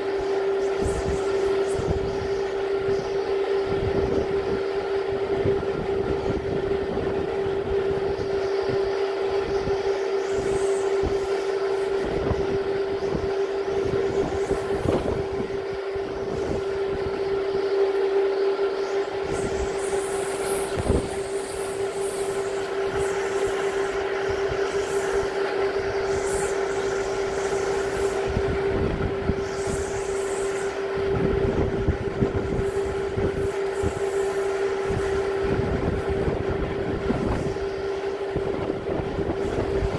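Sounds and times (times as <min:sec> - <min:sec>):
steady pitched tone: 0:00.0 - 0:39.9
strong wind buffeting microphone: 0:00.0 - 0:39.9.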